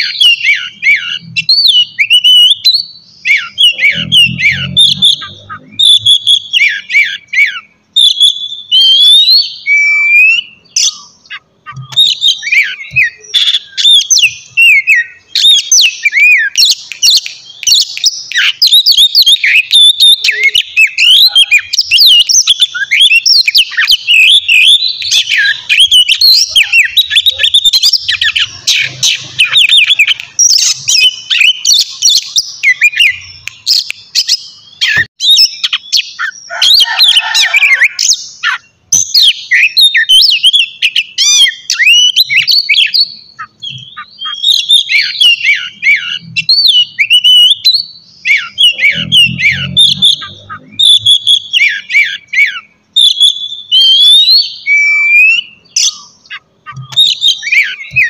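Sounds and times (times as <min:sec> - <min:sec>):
bird singing whistled song: 0:00.0 - 0:58.0.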